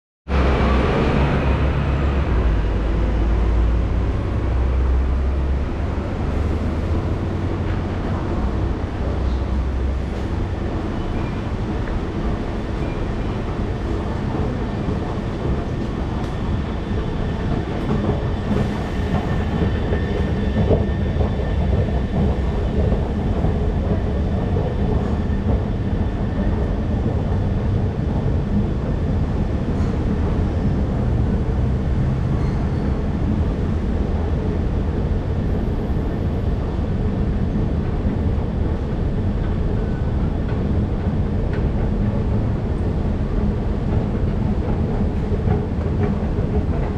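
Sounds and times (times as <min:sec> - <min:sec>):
heavy low rumble: 0:00.3 - 0:46.9.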